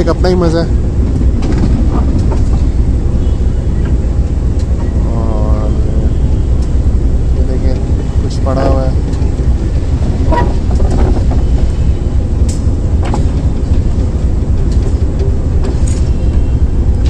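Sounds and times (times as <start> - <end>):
locomotive engine rumble: 0.0 - 17.0.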